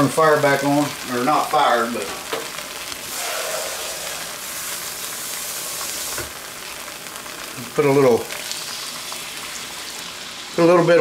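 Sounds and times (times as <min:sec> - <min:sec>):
broth sizzling in a wok: 0:00.0 - 0:11.0.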